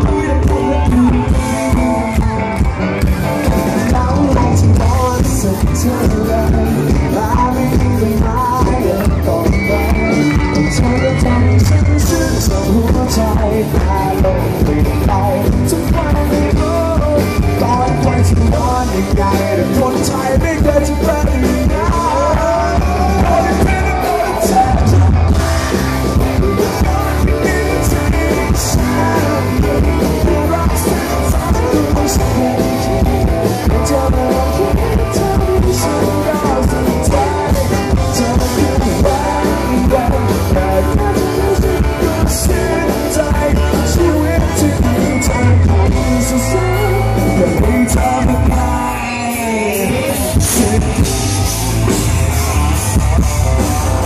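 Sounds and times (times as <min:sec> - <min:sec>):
man singing: 0:00.0 - 0:53.1
live rock band playing: 0:00.0 - 0:54.0.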